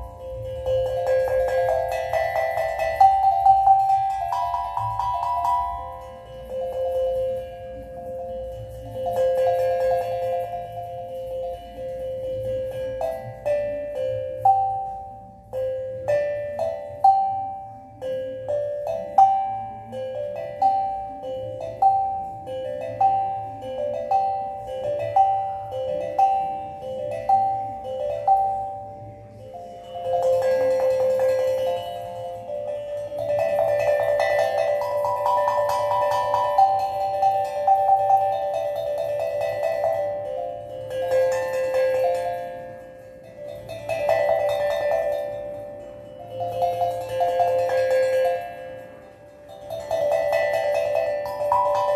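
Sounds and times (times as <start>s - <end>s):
steel tongue drum notes: 0.0s - 51.9s.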